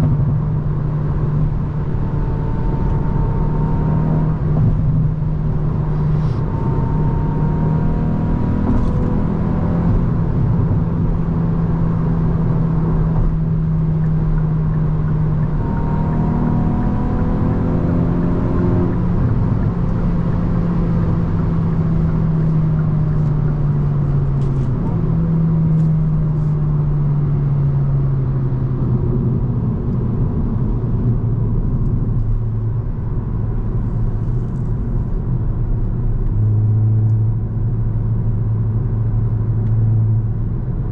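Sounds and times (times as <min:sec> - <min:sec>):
car engine under way: 0:00.0 - 0:40.9
road noise: 0:00.0 - 0:40.9.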